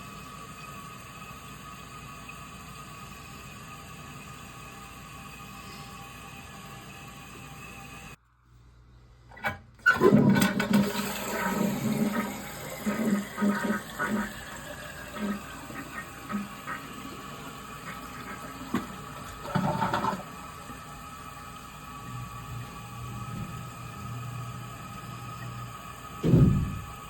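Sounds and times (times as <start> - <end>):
toilet water rushing and gurgling: 0.0 - 8.2, 9.4 - 27.0.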